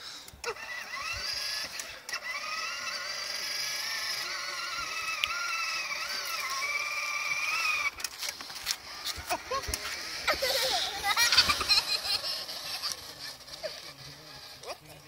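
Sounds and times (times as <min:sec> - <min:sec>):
electric toy car motor whining: 0:00.0 - 0:15.0.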